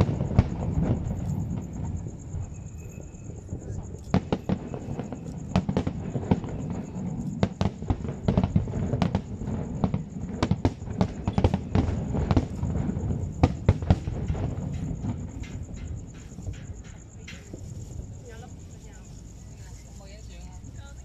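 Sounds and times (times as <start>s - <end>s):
firework shells bursting: 0.0s - 19.0s
continuous low rumble: 0.0s - 21.0s.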